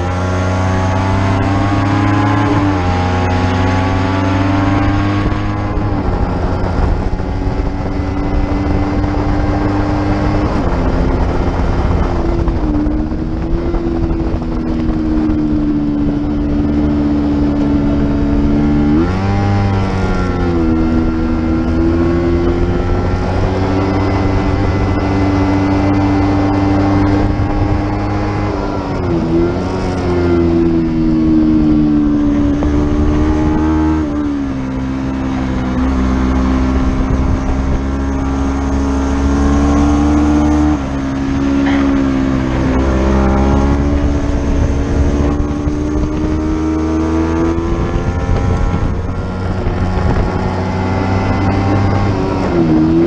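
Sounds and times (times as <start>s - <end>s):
racing motorcycle engine: 0.0s - 53.0s.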